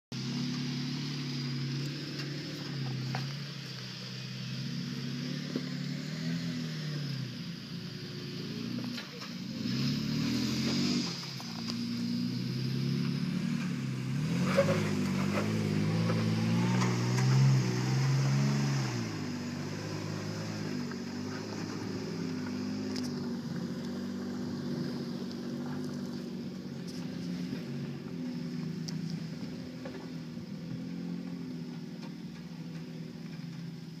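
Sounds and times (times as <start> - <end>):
engine working under load: 0.1 - 34.0.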